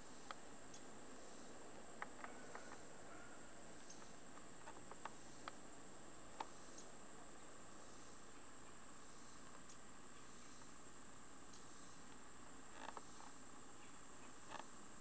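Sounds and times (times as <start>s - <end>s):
insect chirps and ticks: 0.0s - 15.0s
insects hissing: 0.0s - 15.0s.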